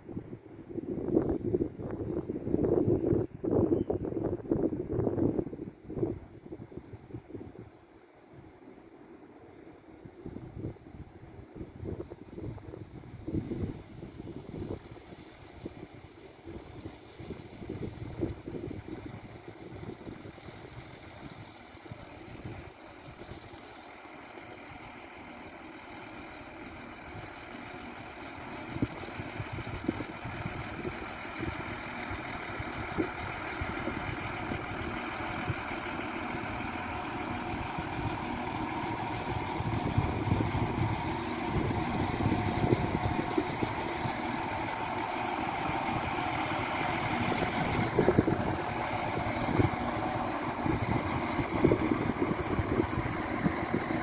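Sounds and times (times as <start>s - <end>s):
diesel train engines running: 0.0s - 54.0s.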